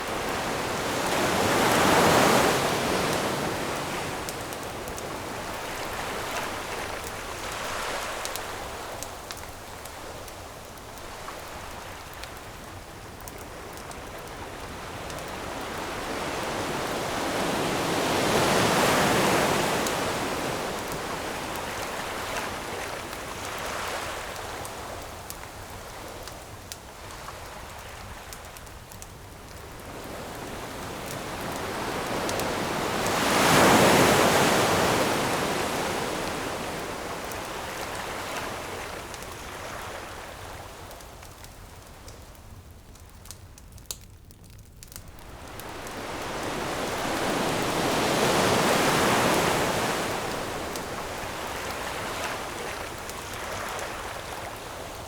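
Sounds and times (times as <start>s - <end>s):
ocean waves washing on shore: 0.0s - 42.3s, 45.0s - 55.0s
campfire crackling: 0.0s - 55.0s.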